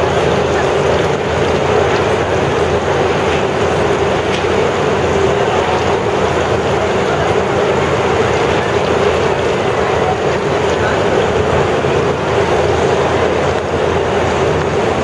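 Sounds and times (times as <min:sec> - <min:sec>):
large fans blowing air: 0:00.0 - 0:15.0.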